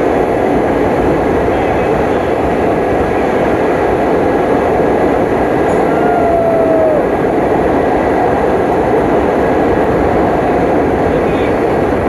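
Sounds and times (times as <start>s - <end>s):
train rumbling and rattling: 0.0s - 12.0s.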